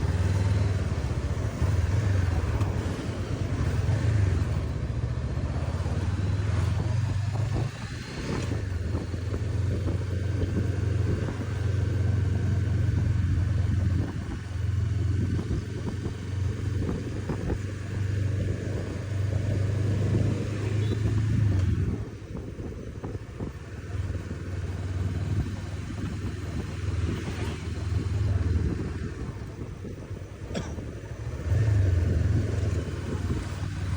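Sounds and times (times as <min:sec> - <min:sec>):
motorcycle engine running: 0:00.0 - 0:33.9
road and wind rumble: 0:00.0 - 0:33.9.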